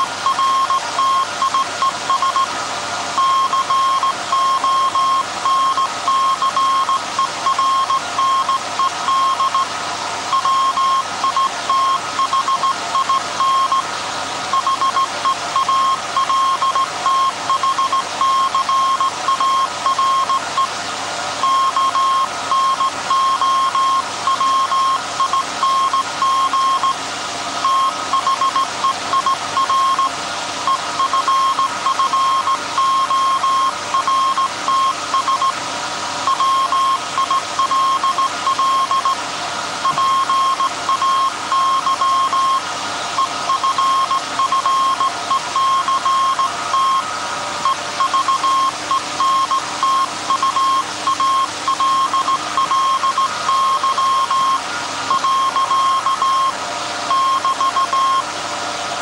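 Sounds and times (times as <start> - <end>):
morse code beeping tone: 0.2 - 2.5, 3.2 - 9.7, 10.3 - 13.9, 14.5 - 20.7, 21.4 - 27.0, 27.6 - 30.1, 30.7 - 35.6, 36.3 - 39.2, 39.8 - 58.3.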